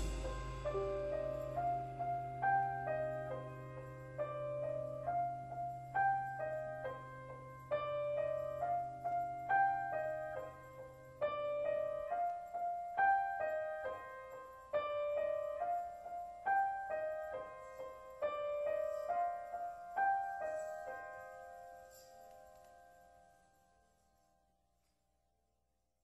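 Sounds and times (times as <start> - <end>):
soft piano notes: 0.0 - 24.5.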